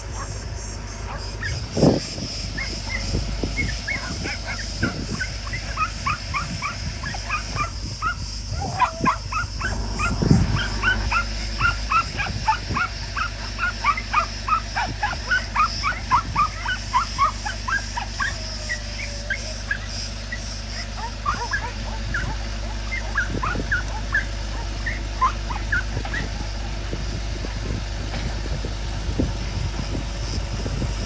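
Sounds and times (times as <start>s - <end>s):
puppies whimpering and yipping: 0.0s - 31.0s.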